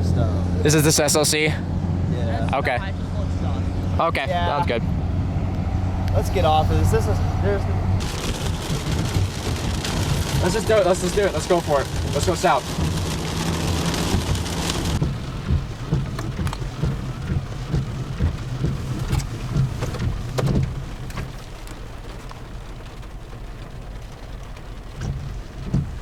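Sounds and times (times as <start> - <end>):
steady low rumble: 0.0 - 23.9
raindrops ticking on vehicle: 0.0 - 26.0.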